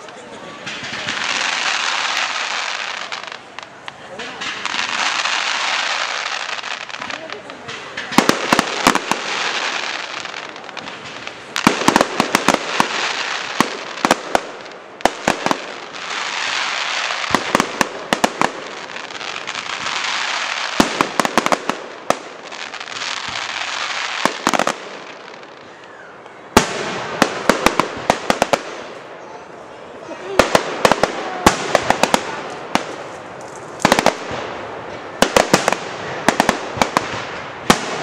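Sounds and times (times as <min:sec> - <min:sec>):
fireworks bangs and cracks: 0:00.0 - 0:25.8, 0:26.5 - 0:29.2, 0:30.0 - 0:38.0
steady hiss: 0:00.0 - 0:38.0.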